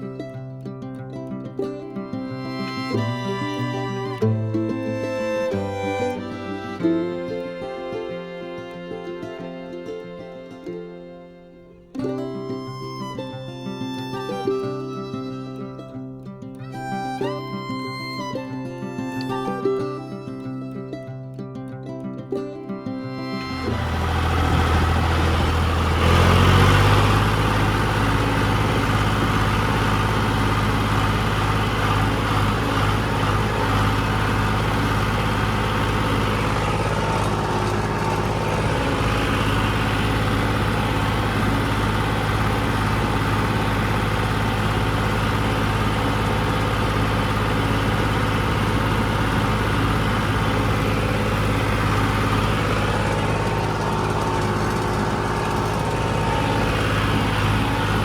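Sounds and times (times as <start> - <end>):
heavy machine engine droning: 0.0 - 16.0, 16.6 - 21.0, 23.0 - 58.0.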